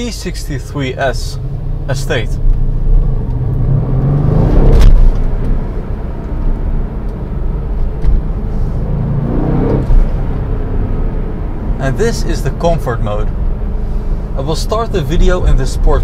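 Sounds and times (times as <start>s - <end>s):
car engine rumble from cabin: 0.0s - 16.0s.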